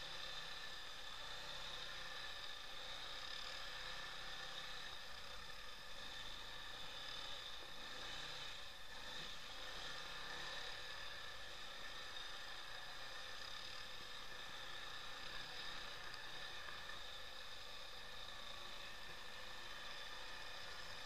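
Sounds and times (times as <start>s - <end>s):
atv engine droning with whine: 0.0s - 21.0s.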